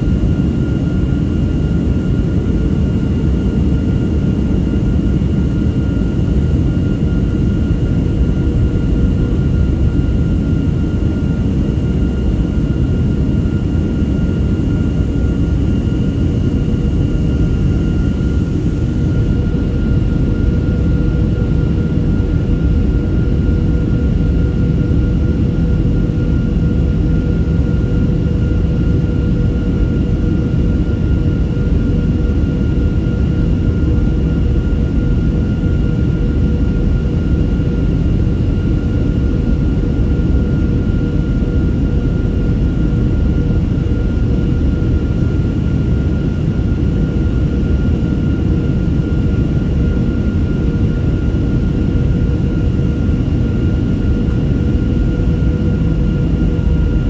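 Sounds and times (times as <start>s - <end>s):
jet engine cabin rumble: 0.0s - 57.0s
steady tonal hum: 0.0s - 57.0s.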